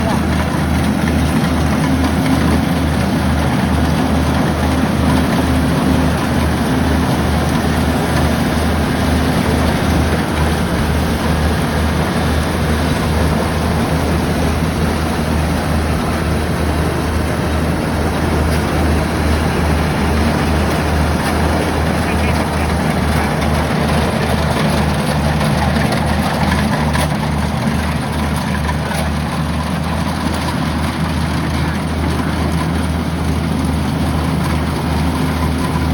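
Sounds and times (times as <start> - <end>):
combine harvester running: 0.0 - 35.9.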